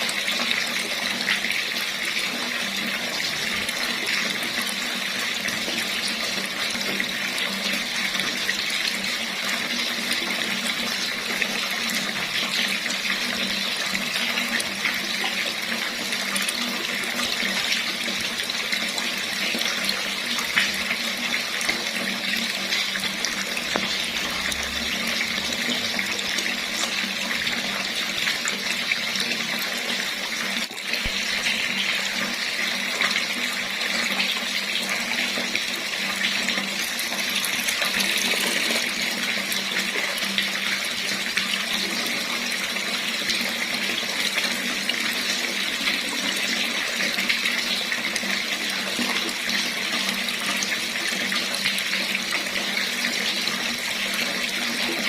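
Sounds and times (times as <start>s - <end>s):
tap water running and splashing: 0.0s - 55.0s.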